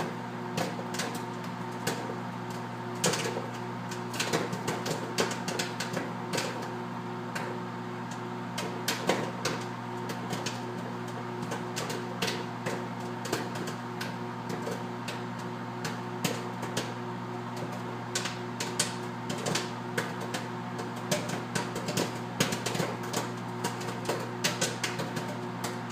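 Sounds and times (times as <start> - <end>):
microwave oven humming: 0.0 - 25.9
popcorn popping: 0.0 - 25.9.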